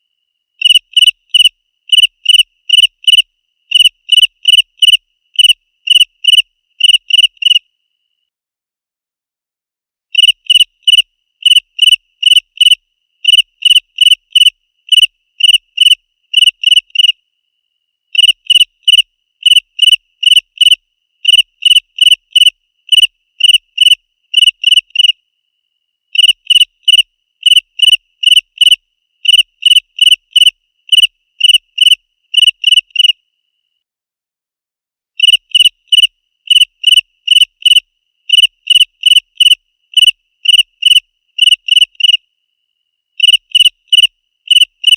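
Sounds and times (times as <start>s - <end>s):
cricket chirping: 0.0s - 8.3s, 10.1s - 33.8s, 35.2s - 44.9s.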